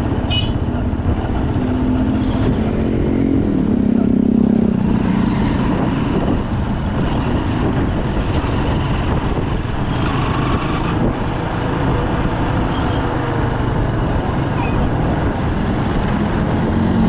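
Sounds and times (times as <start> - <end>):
road and traffic rumble: 0.0 - 17.0.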